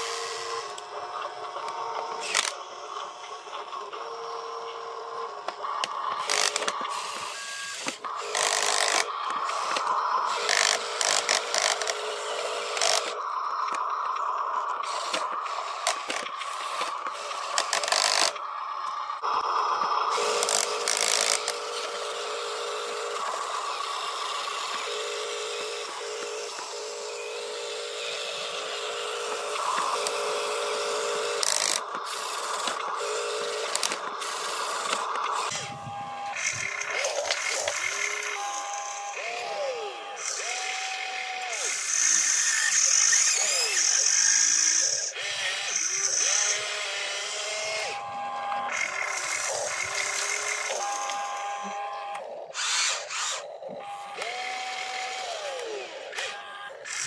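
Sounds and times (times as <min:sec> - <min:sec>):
toy truck motor whining: 0:00.0 - 0:57.0.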